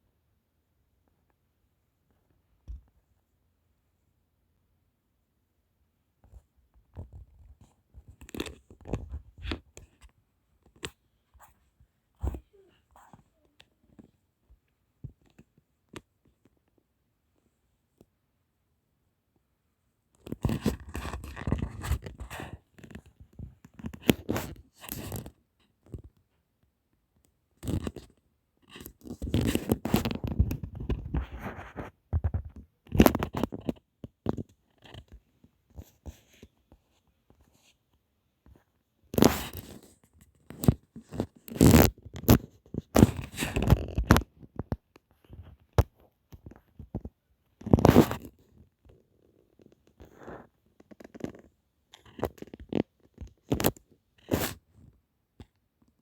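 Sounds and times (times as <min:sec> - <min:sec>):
scratching and rustling handling noise: 0:06.2 - 0:18.2, 0:20.1 - 0:56.0.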